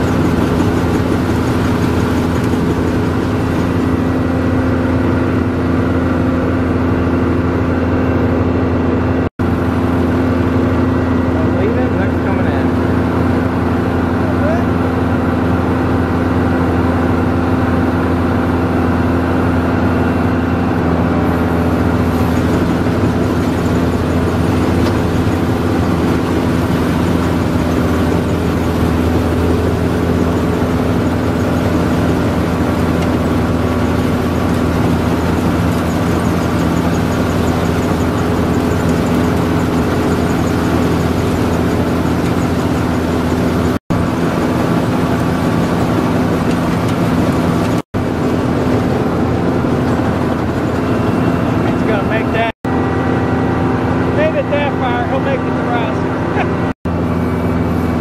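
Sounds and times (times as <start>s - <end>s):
harvester engine drone: 0.0s - 58.0s.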